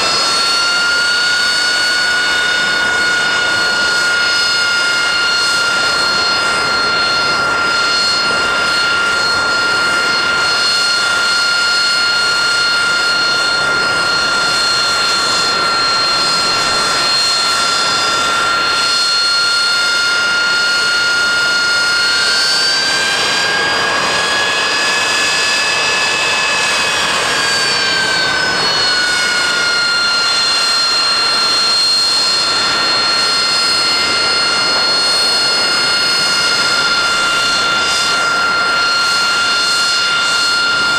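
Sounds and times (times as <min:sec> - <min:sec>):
jet engine high whine: 0:00.0 - 0:40.9.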